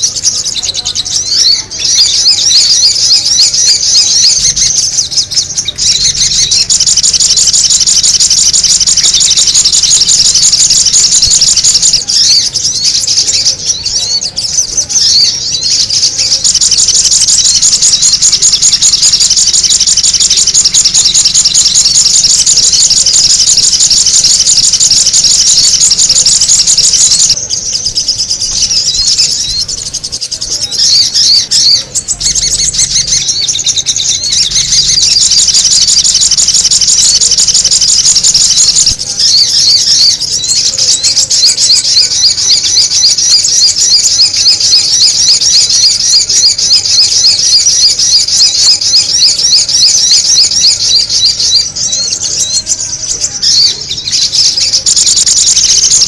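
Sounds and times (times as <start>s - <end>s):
rapid high-pitched bird chattering: 0.0s - 56.0s.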